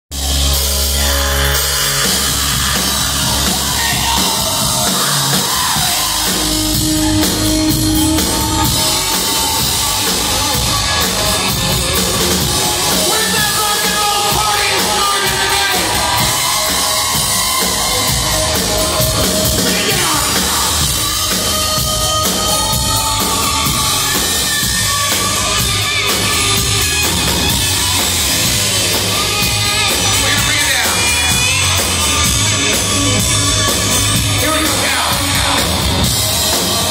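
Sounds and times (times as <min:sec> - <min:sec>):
drum kit: 0:00.1 - 0:36.9
electric guitars: 0:00.1 - 0:36.9.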